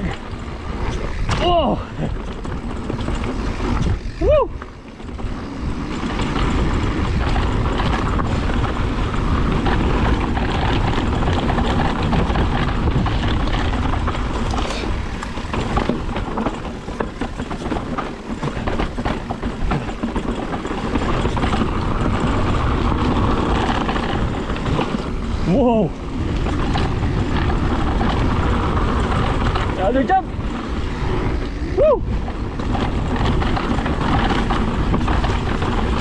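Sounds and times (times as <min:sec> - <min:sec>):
bike rattles and knocks: 0:00.0 - 0:36.0
bike tyre noise: 0:00.0 - 0:36.0
wind rush on microphone: 0:00.0 - 0:36.0.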